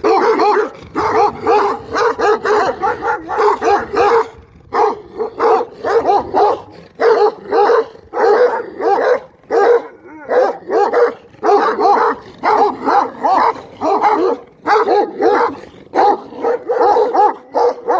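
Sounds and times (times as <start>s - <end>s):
dog barking: 0.0s - 17.9s.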